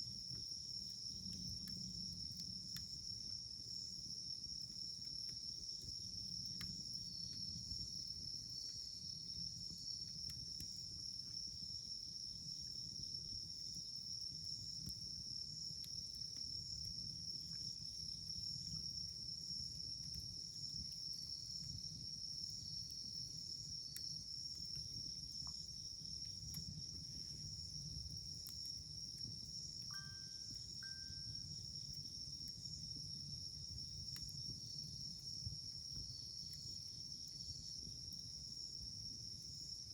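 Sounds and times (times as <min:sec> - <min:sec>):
campfire crackling: 0:00.1 - 0:30.8, 0:31.4 - 0:38.2
insects chirping: 0:00.1 - 0:39.9.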